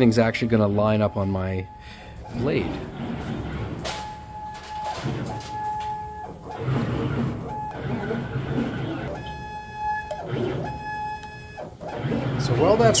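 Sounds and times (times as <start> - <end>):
low mechanical rumble: 0.0 - 13.0
stepper motors whining: 0.0 - 13.0.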